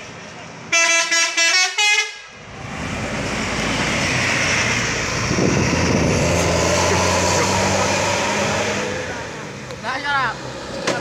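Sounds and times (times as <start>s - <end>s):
bus passing by: 0.0s - 11.0s.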